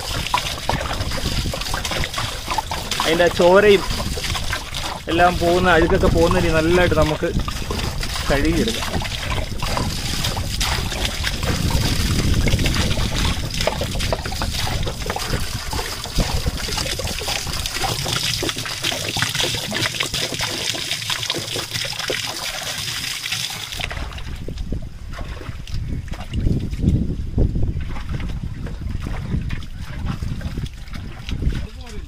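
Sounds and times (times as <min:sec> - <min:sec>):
water pouring and splashing: 0:00.0 - 0:32.0.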